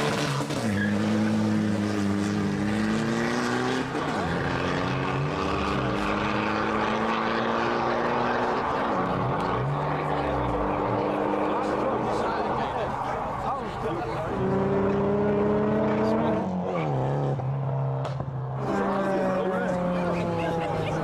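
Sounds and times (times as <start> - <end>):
cars accelerating hard: 0.0 - 21.0.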